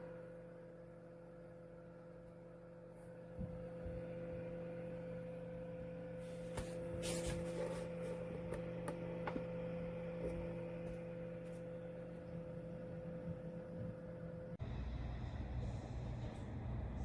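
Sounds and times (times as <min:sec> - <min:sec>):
dehumidifier humming: 0:00.0 - 0:17.0.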